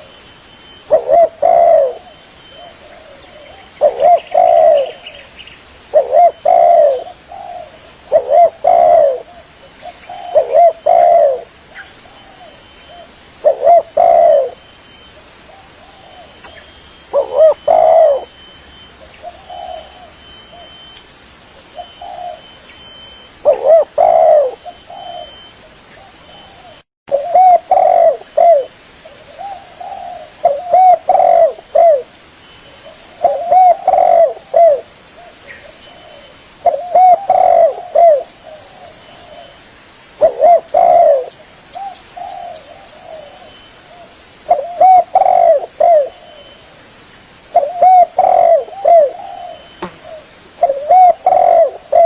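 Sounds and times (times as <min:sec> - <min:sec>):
dove cooing: 0:00.0 - 0:20.9, 0:21.6 - 0:32.1, 0:32.7 - 0:39.6, 0:40.2 - 0:46.7, 0:47.5 - 0:52.0.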